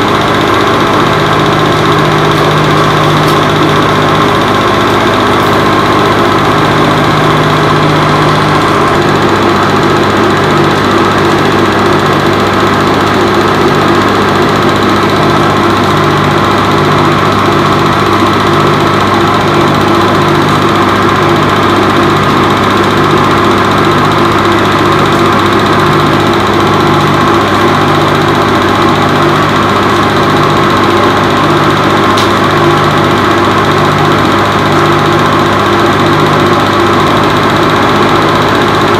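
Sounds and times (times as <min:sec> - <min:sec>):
film projector running: 0:00.0 - 0:38.9.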